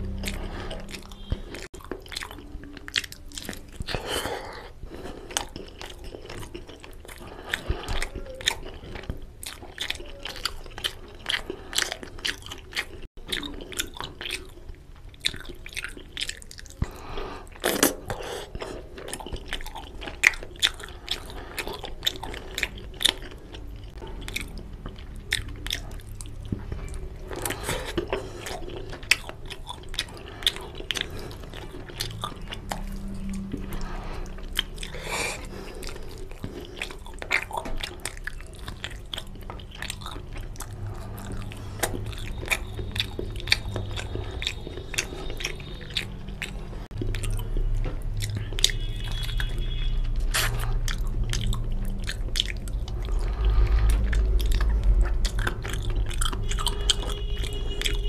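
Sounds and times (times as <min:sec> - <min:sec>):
mouth clicks and smacks: 0:00.0 - 0:58.0
person chewing: 0:00.0 - 0:58.0.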